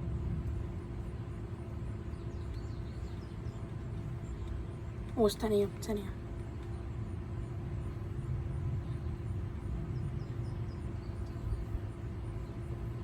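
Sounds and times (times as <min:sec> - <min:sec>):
constant hum: 0:00.0 - 0:13.0
distant traffic rumble: 0:00.0 - 0:13.0.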